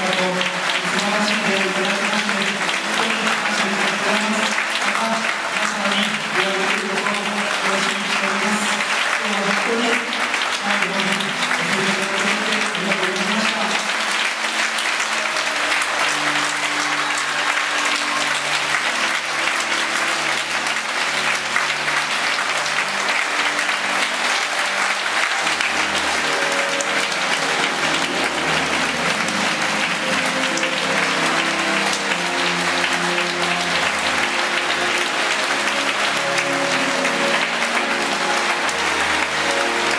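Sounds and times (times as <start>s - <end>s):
audience applauding: 0.0s - 39.9s
quiet music: 0.0s - 39.9s.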